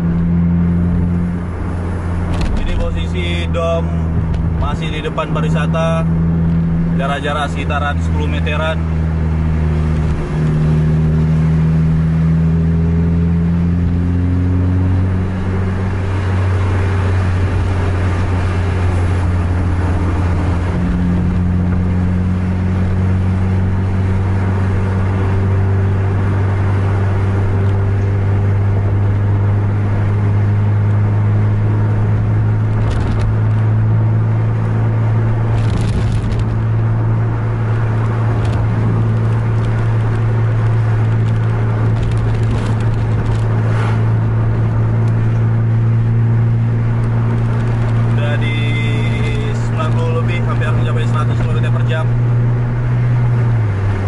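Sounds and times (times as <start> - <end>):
diesel bus engine droning: 0.0 - 54.0.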